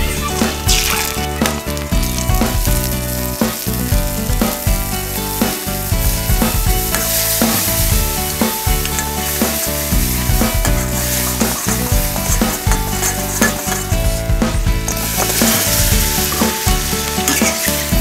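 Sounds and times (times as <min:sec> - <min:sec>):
garlic sizzling in hot oil: 0:00.0 - 0:18.0
metal ladle scraping wok: 0:00.1 - 0:18.0.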